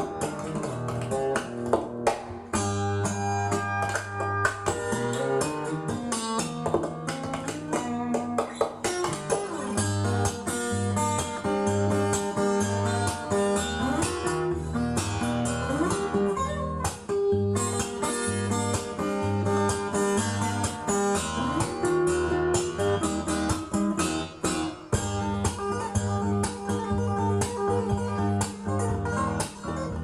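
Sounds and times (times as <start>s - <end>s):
guitar-led song from record: 0.0s - 30.0s.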